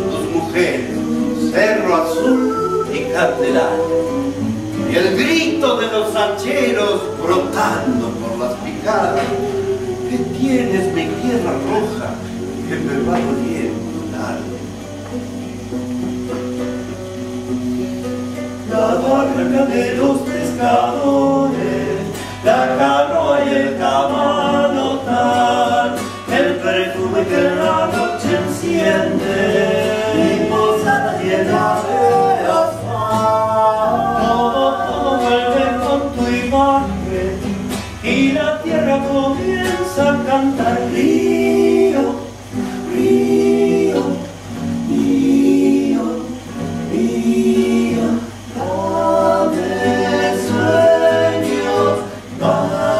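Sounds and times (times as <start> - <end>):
people singing in harmony: 0.0 - 15.7, 18.5 - 52.9.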